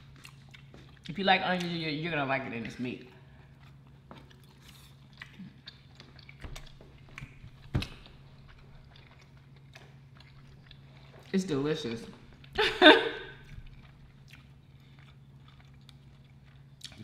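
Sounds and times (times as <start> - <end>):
chewing and mouth sounds: 0.0 - 2.0, 3.0 - 12.6, 13.3 - 17.0.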